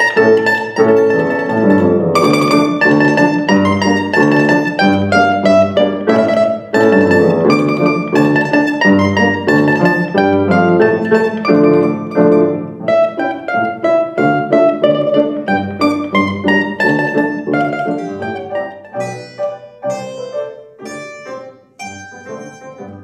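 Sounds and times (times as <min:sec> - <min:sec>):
piano chords: 0:00.0 - 0:23.0
plucked string melody: 0:00.0 - 0:23.0.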